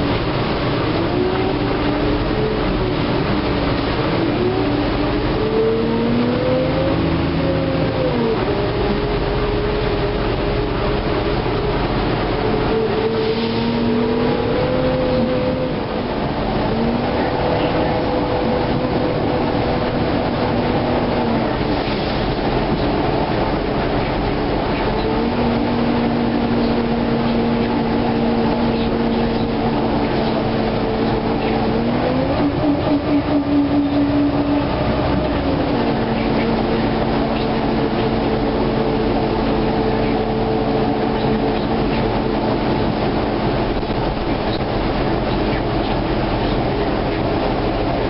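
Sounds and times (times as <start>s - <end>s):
bus rumble and road noise: 0.0s - 48.0s
drivetrain whine: 0.0s - 48.0s.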